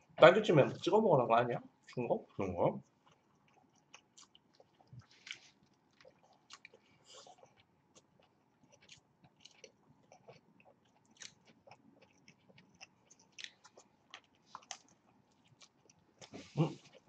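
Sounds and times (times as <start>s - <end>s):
chewing food: 1.8s - 17.0s.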